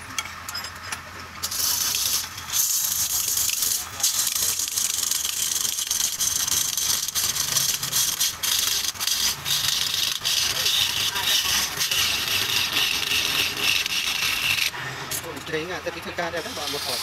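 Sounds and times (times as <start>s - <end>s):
lathe gouge cutting wood: 2.0s - 14.8s, 16.1s - 17.0s.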